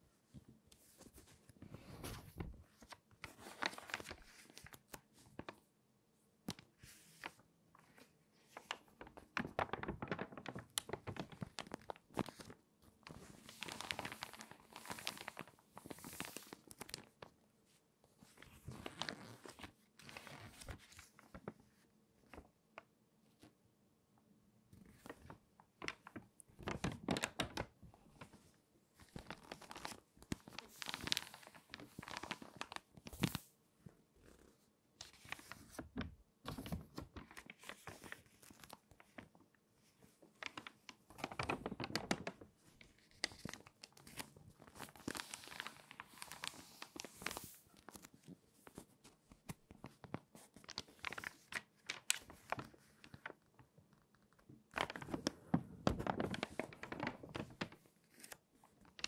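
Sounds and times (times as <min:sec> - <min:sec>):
magazine pages crinkling: 0:01.8 - 0:05.6, 0:08.0 - 0:17.3, 0:18.2 - 0:21.5, 0:24.9 - 0:28.3, 0:29.0 - 0:33.5, 0:35.0 - 0:39.3, 0:40.3 - 0:59.0.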